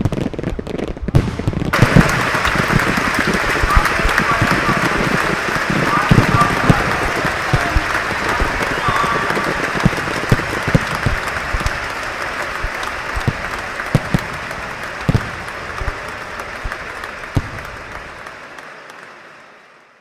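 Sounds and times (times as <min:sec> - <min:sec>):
firework booms: 0:00.0 - 0:18.0
crowd applauding: 0:01.8 - 0:20.0.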